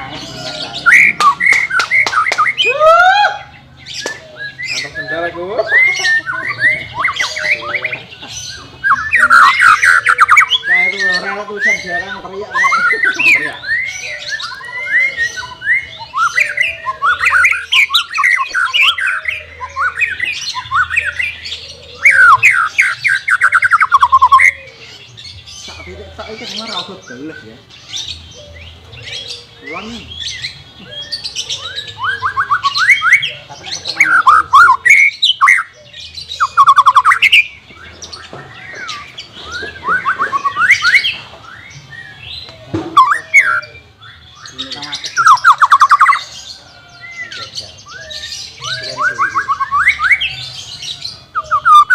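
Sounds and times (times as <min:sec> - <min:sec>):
bird singing whistles and chirps: 0:00.0 - 0:51.9.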